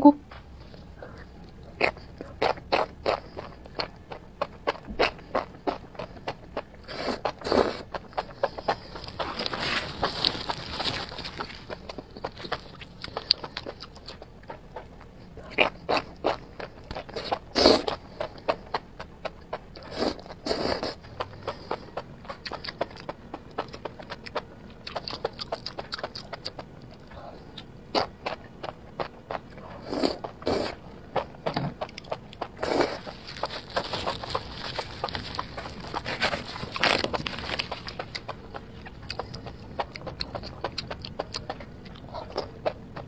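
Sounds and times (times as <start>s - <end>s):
chewing and slurping: 0.7s - 43.0s.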